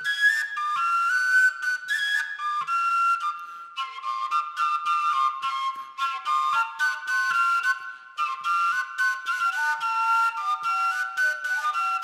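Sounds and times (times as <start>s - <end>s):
quick flute-like melody: 0.0s - 12.0s.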